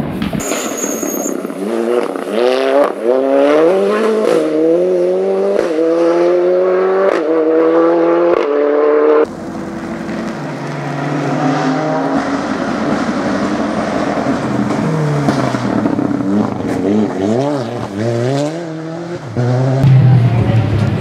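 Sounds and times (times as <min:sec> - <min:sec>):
rally car engine revving: 0:01.3 - 0:21.0.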